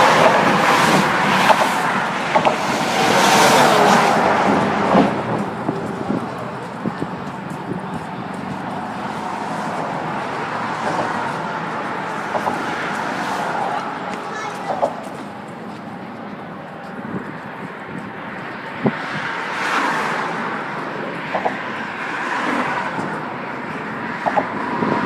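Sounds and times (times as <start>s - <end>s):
road traffic rushing: 0.0s - 25.0s
wind: 0.0s - 25.0s.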